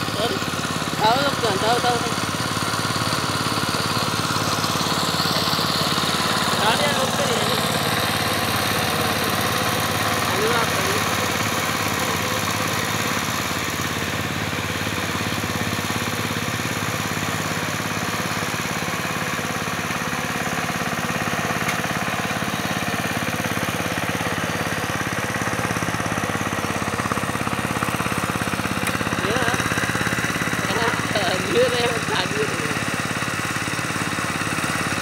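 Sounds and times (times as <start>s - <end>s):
diesel engine running under load: 0.0s - 35.0s.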